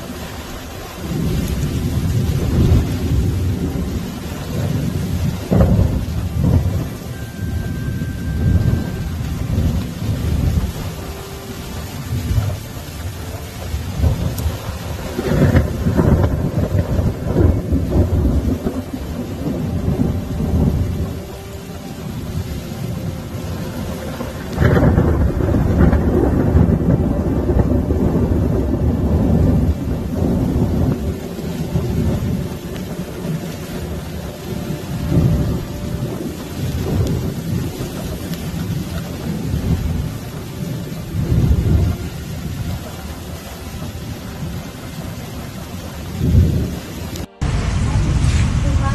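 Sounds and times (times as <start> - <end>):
heavy rain: 0.0 - 48.9
thunder rumbling: 0.0 - 48.9.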